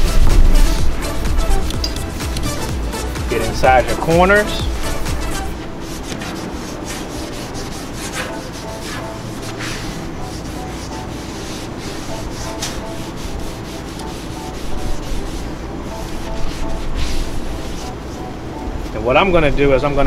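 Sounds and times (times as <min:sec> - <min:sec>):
paper towel rubbing on griddle: 0:00.0 - 0:18.5.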